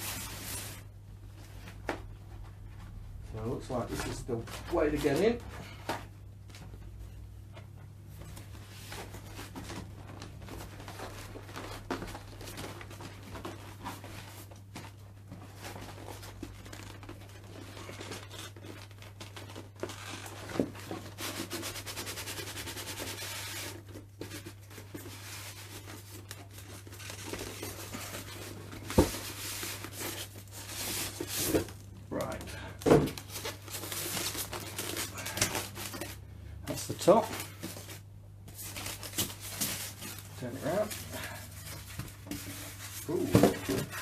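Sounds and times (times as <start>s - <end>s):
cardboard packaging rustling and tearing: 0.0s - 0.9s, 8.4s - 44.0s.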